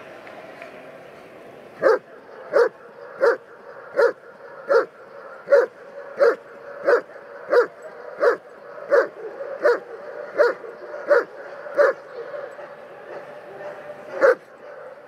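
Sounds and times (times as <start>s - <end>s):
dog barking: 1.8s - 15.0s.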